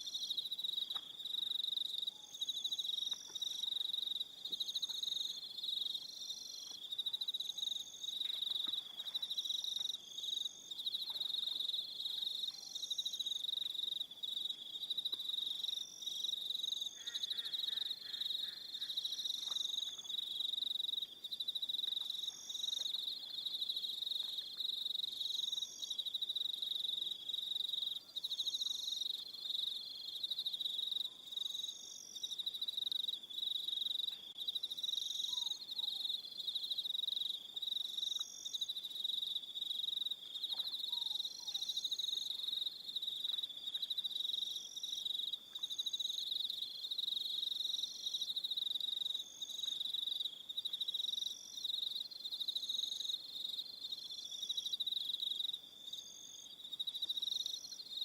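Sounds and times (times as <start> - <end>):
crickets trilling: 0.0 - 58.0
higher insect call: 0.0 - 58.0.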